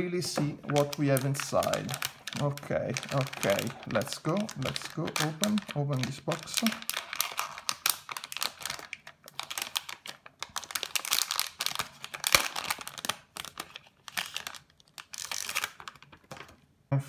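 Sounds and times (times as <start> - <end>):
plastic bag crinkling: 0.0 - 16.6.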